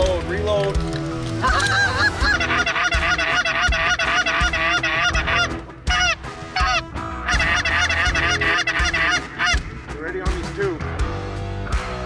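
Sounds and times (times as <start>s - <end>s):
geese honking: 0.0s - 9.8s.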